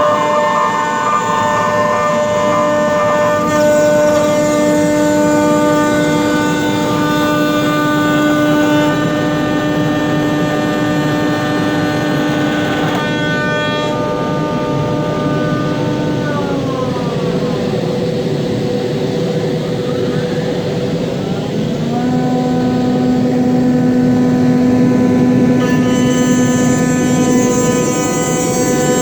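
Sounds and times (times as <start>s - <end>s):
cnc machine whine: 0.0s - 29.0s.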